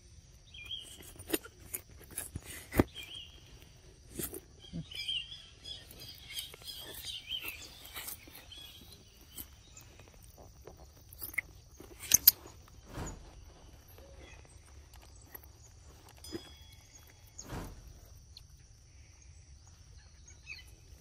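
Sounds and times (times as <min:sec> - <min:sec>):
birds chirping: 0:00.0 - 0:01.8, 0:02.4 - 0:21.0.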